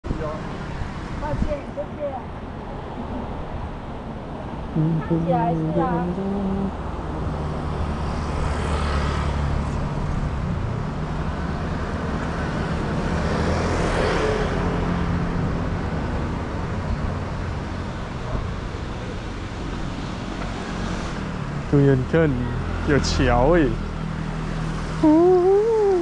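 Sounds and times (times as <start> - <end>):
vehicles passing by: 0.0 - 26.0.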